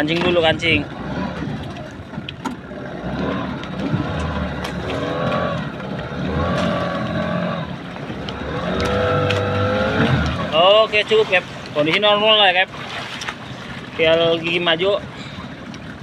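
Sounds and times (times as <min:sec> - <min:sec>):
outboard motor revving: 0:00.0 - 0:16.0.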